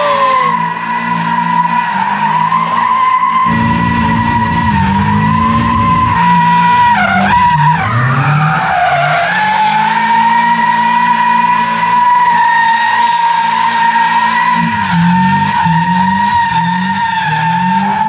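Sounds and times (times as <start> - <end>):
engine at high revs: 3.4 - 18.0.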